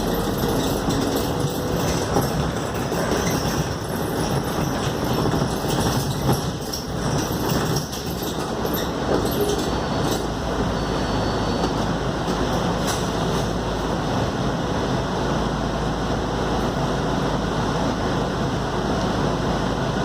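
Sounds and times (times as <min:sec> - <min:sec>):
bus diesel engine rumbling: 0:00.0 - 0:20.0
road noise: 0:00.0 - 0:20.0.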